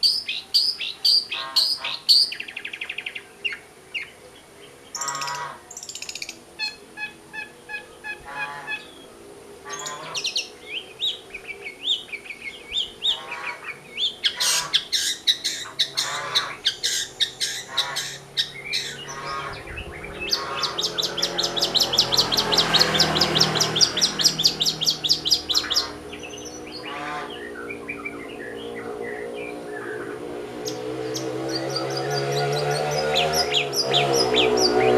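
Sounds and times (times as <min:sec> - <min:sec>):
bird singing chirps: 0:00.0 - 0:34.9.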